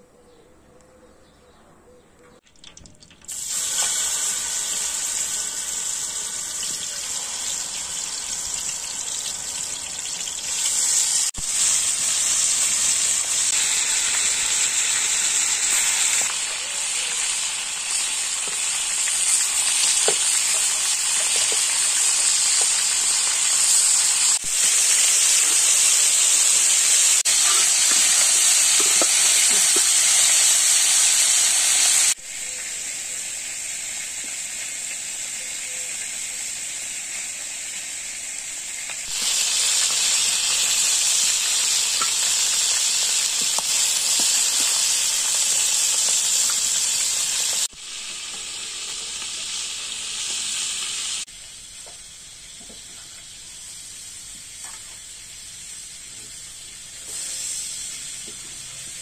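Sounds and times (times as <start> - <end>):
meat sizzling in a pan: 3.3 - 59.0.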